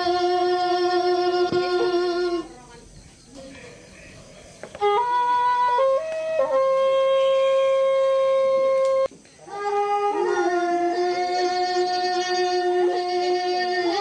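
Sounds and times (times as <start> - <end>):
wind instrument holding notes: 0.0 - 2.7, 4.7 - 14.0.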